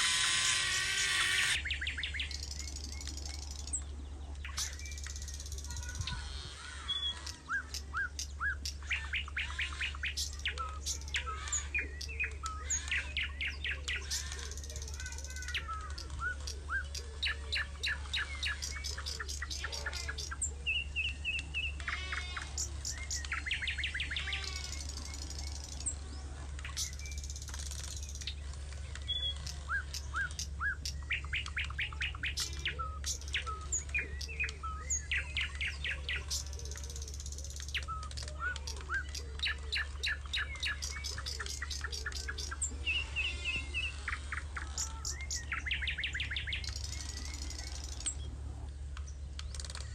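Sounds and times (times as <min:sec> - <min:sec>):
birds chirping and trilling: 0:00.0 - 0:49.9
steady low hum: 0:00.0 - 0:49.9.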